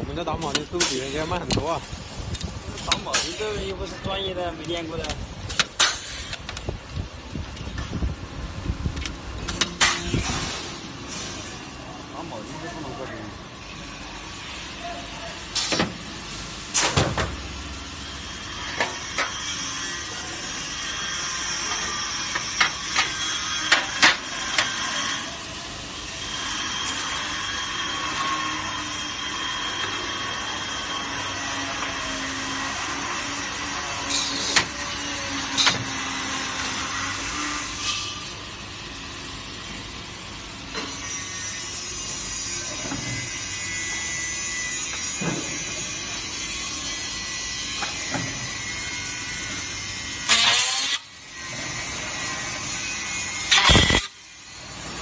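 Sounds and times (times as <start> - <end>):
machine hum and hiss: 0.0 - 55.0.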